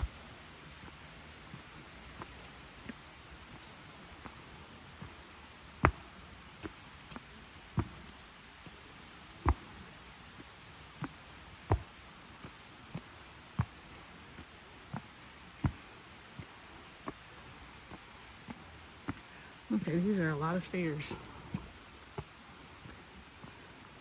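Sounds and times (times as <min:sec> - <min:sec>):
footsteps in rubber boots: 0:00.0 - 0:24.0.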